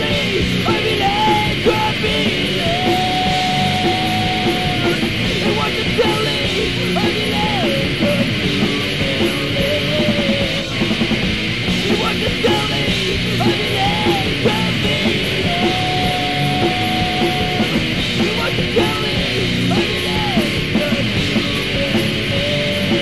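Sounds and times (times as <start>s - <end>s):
punk rock band music: 0.0s - 23.0s.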